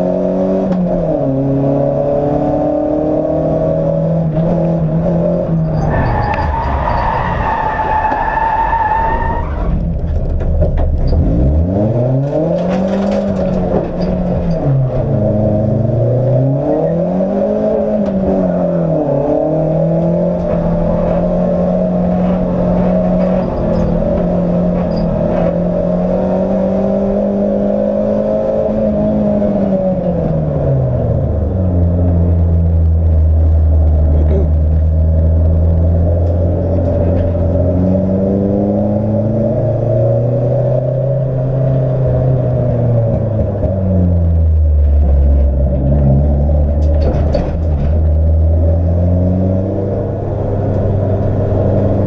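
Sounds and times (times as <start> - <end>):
race car engine revving: 0.0 - 8.5, 10.7 - 52.0.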